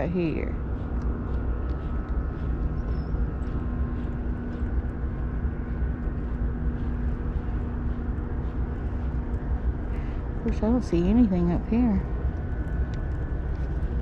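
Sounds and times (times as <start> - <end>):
electric boat motor humming: 0.0 - 14.0
wind on microphone: 0.0 - 14.0.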